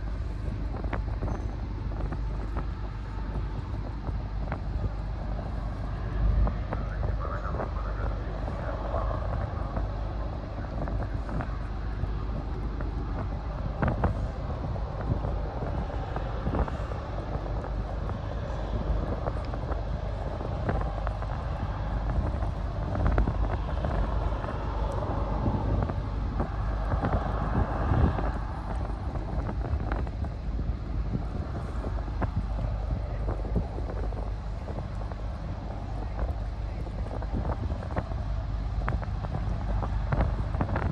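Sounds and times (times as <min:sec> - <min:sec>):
steady low rumble: 0:00.0 - 0:40.9
wind on microphone: 0:00.0 - 0:40.9.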